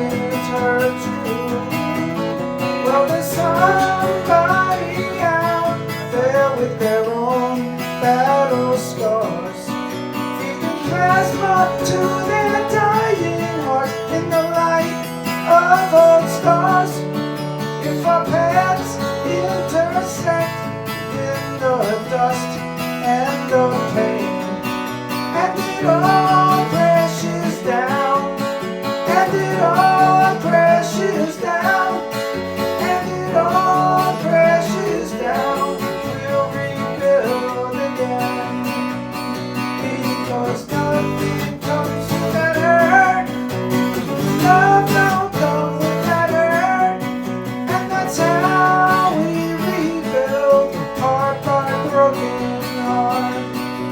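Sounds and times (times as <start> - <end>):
country song: 0.0 - 53.9
strummed acoustic guitar: 0.0 - 53.9.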